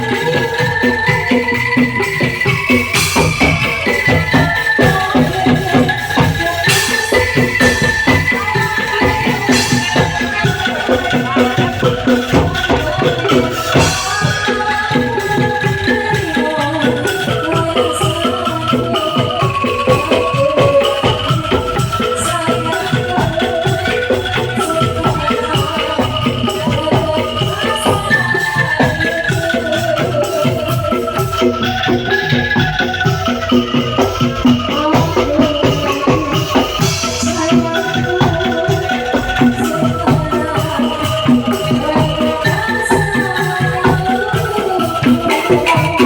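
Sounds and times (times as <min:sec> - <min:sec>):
angklung ensemble playing melody: 0:00.0 - 0:46.0
steady beat: 0:00.0 - 0:46.0.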